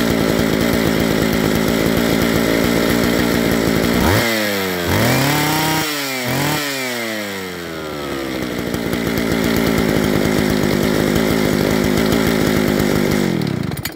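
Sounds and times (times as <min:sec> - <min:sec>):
chainsaw engine revving and idling: 0:00.0 - 0:13.9.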